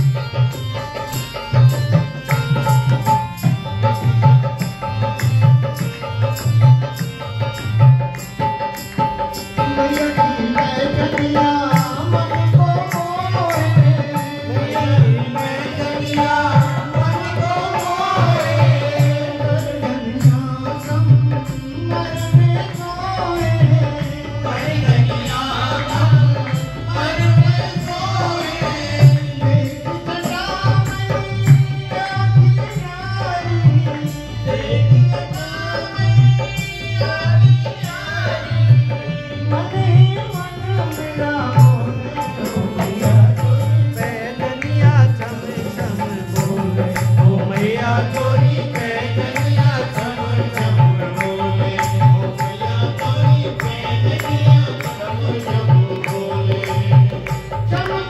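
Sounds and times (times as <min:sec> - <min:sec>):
harmonium: 0:00.0 - 0:58.0
man singing into a microphone: 0:00.0 - 0:58.0.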